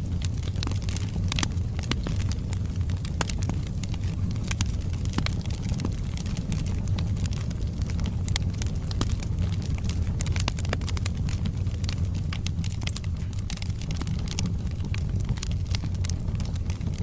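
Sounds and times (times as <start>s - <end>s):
logs crackling and popping: 0.0s - 17.0s
low rumble of flames: 0.0s - 17.0s.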